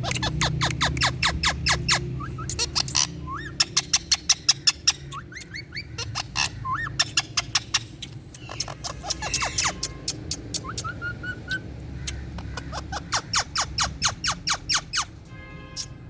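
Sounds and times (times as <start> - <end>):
parakeet chattering calls: 0.0 - 16.0.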